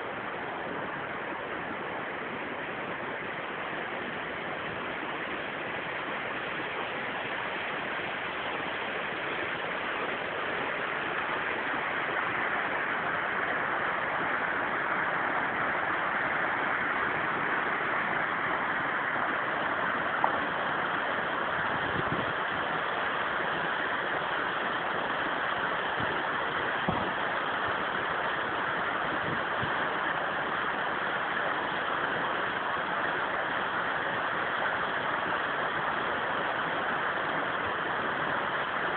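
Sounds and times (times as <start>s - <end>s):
water rushing down waterfall: 0.0s - 38.9s.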